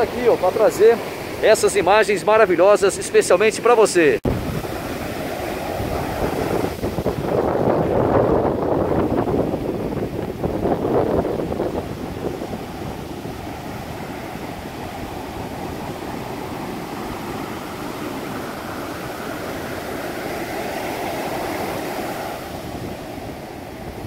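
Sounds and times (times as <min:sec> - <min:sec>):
heavy surf waves breaking: 0:00.0 - 0:24.0.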